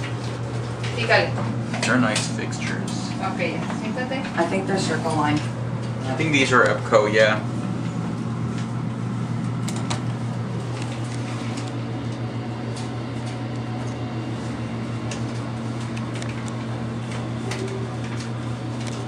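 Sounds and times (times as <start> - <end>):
elevator machinery hum: 0.0 - 19.0.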